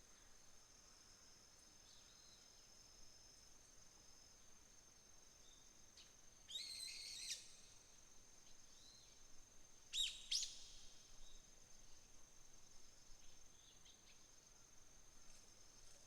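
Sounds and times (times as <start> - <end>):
high-pitched insect trill: 0.2 - 9.2, 9.9 - 16.0.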